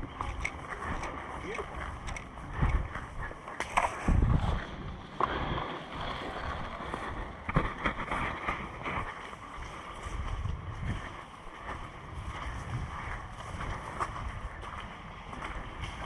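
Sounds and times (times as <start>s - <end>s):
movement noise: 0.0s - 16.0s
wind buffeting microphone: 0.0s - 16.0s.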